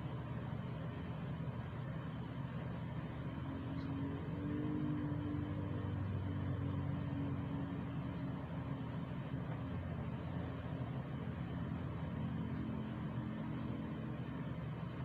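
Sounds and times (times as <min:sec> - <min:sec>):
faint droning tone: 0:00.0 - 0:15.0
low mechanical hum: 0:00.0 - 0:15.0.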